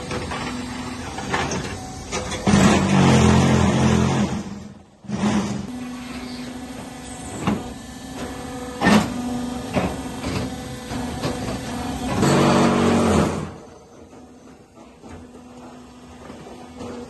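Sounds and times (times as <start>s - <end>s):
loud motor hum: 0.0s - 17.0s
machinery humming: 0.0s - 17.0s.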